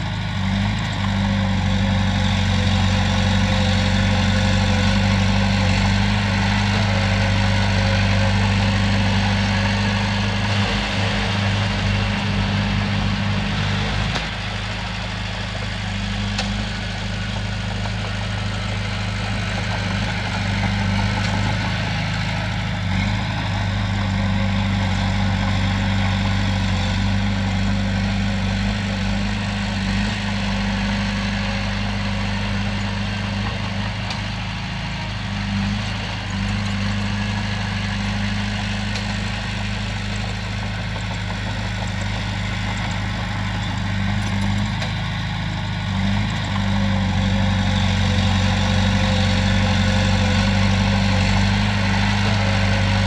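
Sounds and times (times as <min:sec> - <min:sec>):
bulldozer diesel engine humming: 0:00.0 - 0:53.0.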